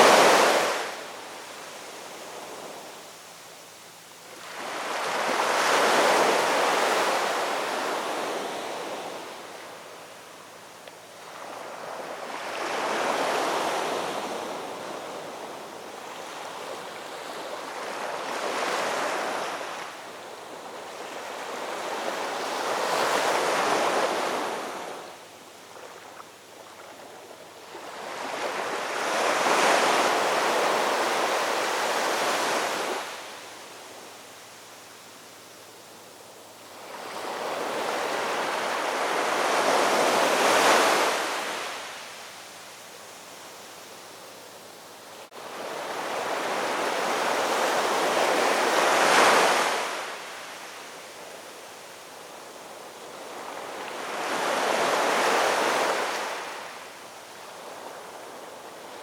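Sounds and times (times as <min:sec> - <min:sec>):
ocean waves breaking on shore: 0:00.0 - 0:03.1, 0:04.2 - 0:10.5, 0:11.1 - 0:34.2, 0:36.6 - 0:59.0.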